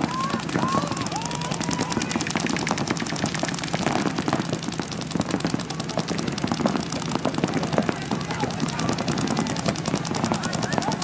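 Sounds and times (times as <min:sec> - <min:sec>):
paintball markers firing rapidly: 0:00.0 - 0:11.0.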